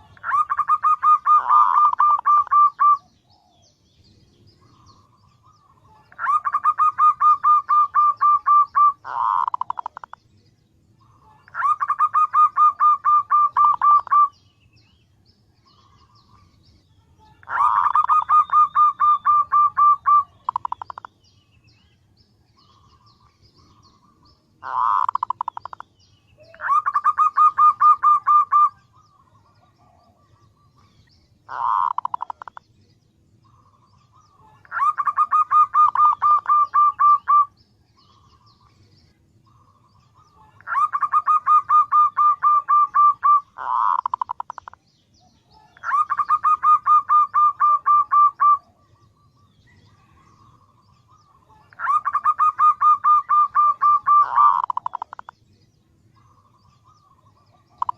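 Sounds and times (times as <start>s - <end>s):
dove calling in rapid notes: 0.0s - 3.7s, 4.6s - 10.2s, 11.0s - 14.5s, 17.2s - 21.2s, 22.6s - 32.6s, 33.4s - 38.7s, 39.4s - 44.8s, 45.6s - 55.4s, 56.2s - 57.9s.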